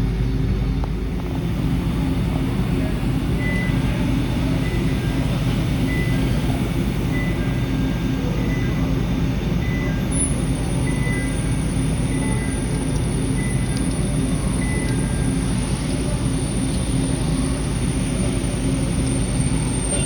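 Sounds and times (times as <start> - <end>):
milling machine humming: 0.6 - 20.0
thin high whine: 1.2 - 20.0.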